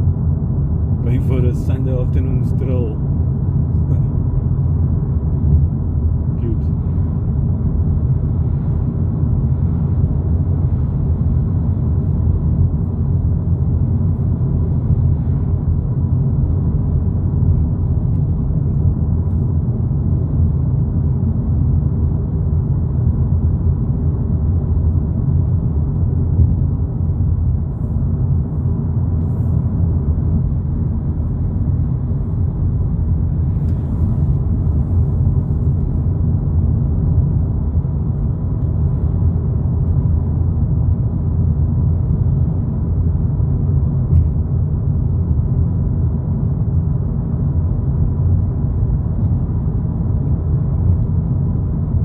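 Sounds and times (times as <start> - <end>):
tyre and engine rumble in car cabin: 0.0 - 52.0.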